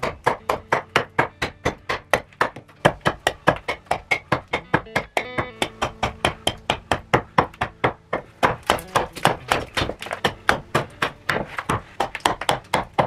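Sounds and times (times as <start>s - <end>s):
hatchet chopping wood: 0.0s - 13.0s.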